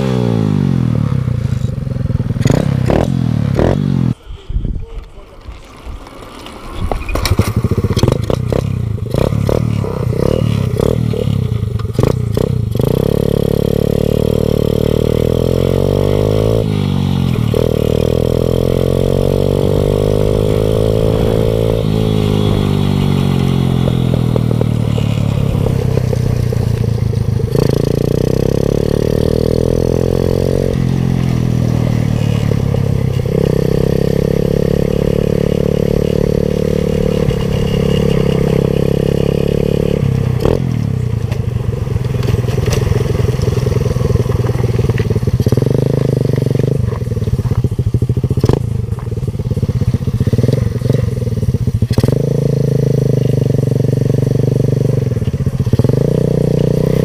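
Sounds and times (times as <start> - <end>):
small four-stroke engine revving: 0.0 - 4.2, 6.0 - 57.0.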